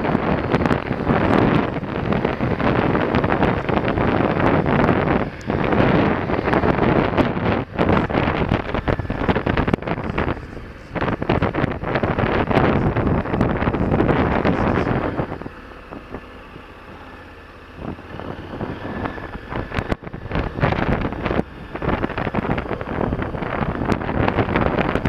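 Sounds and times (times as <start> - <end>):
motorcycle engine: 0.0 - 25.0
tyres on dirt road: 0.0 - 25.0
wind buffeting microphone: 0.0 - 25.0.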